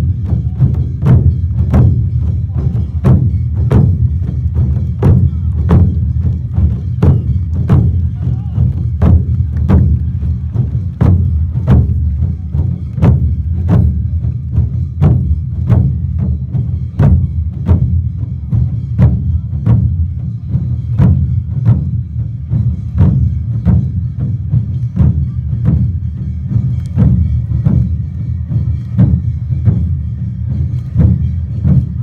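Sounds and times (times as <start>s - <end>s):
low drum rumble: 0.0s - 32.0s
sharp percussion strikes: 0.0s - 32.0s.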